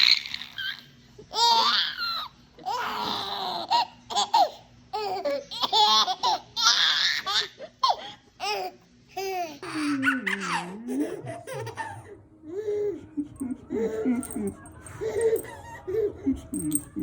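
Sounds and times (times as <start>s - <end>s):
baby laughing: 0.0s - 17.0s.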